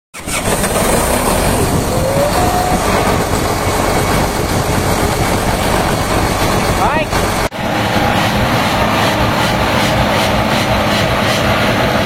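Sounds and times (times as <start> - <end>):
diesel engine at high idle: 0.2 - 12.0
turbocharger rubbing noise: 0.2 - 12.0.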